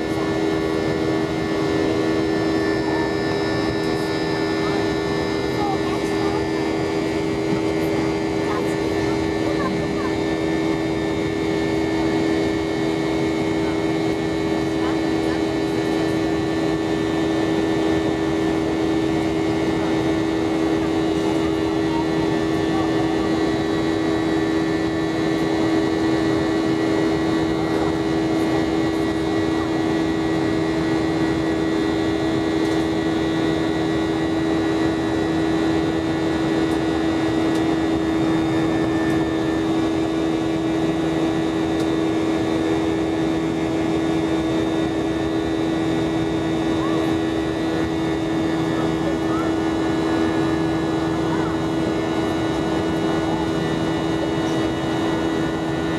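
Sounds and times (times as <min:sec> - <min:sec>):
jet engines droning: 0:00.0 - 0:55.9.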